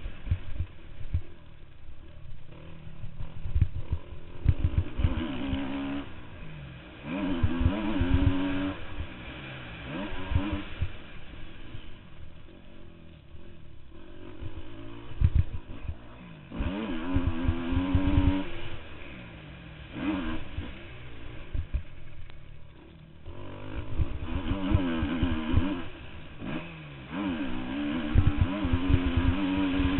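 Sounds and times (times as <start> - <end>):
motorcycle engines revving: 0.0 - 29.9.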